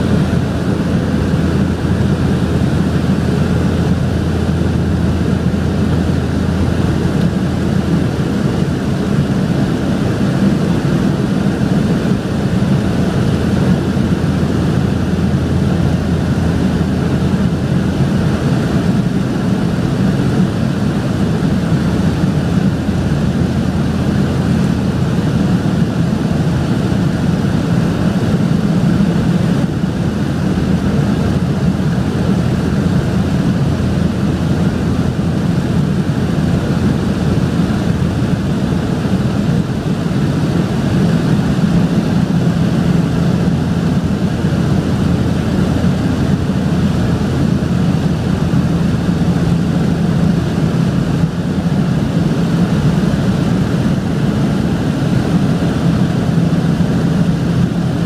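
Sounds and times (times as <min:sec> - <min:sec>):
turboprop engines droning in cabin: 0:00.0 - 0:58.0.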